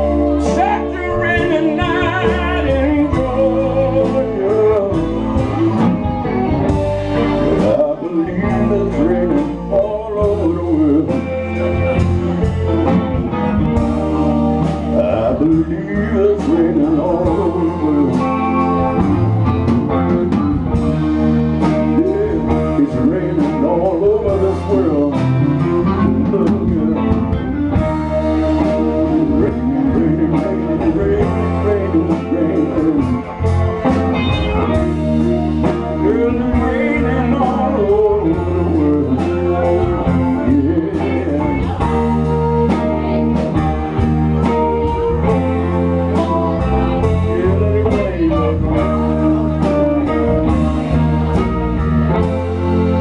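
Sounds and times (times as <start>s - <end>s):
lead guitar bending notes: 0.0s - 53.0s
slow blues band playing: 0.0s - 53.0s.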